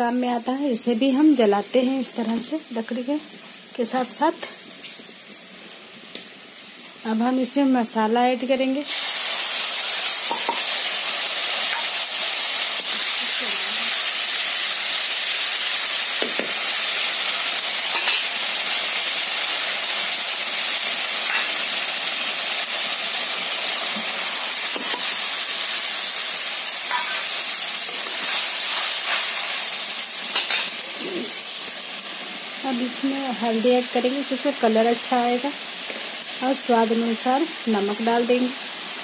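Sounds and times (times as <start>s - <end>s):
paste sizzling in hot oil: 0.1s - 39.0s.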